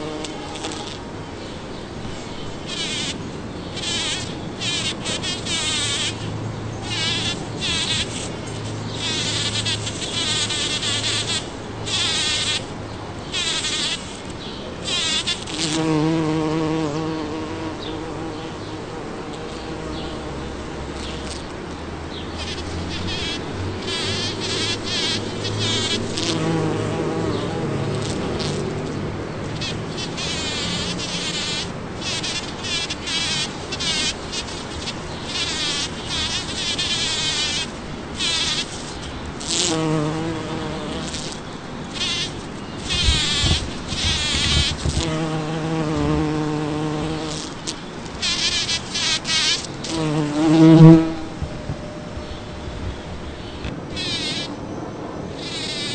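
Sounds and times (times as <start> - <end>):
bumblebee buzzing: 0.0 - 1.2, 2.2 - 12.7, 13.3 - 21.5, 22.1 - 54.6, 55.3 - 55.9.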